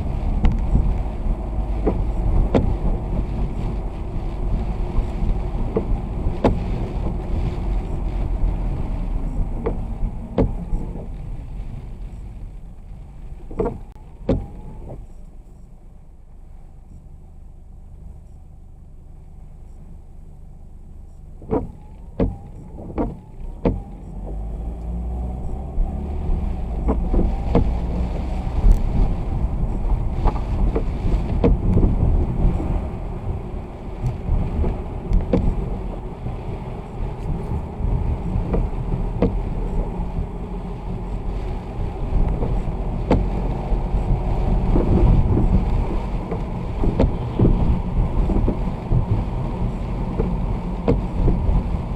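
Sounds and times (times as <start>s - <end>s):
vehicle driving on wet road: 0.0s - 51.9s.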